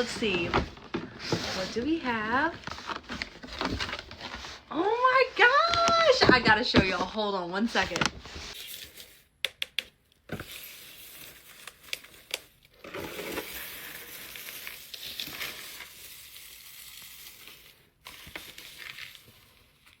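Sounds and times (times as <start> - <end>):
paper and plastic packaging rustling: 0.0 - 9.4, 10.3 - 20.0.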